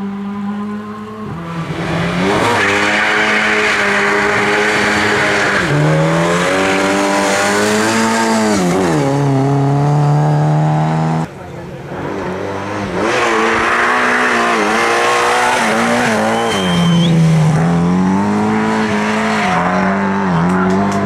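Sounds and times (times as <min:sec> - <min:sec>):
racing car engine revving: 0:00.0 - 0:11.3, 0:11.9 - 0:21.0.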